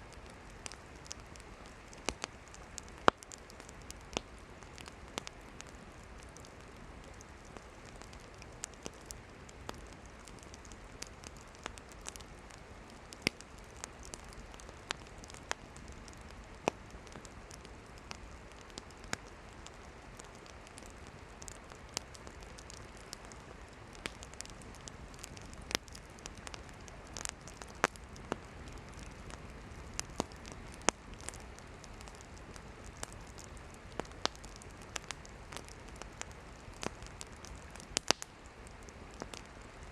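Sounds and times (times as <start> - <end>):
campfire hissing: 0.0 - 39.9
firewood crackling and popping: 0.0 - 39.9.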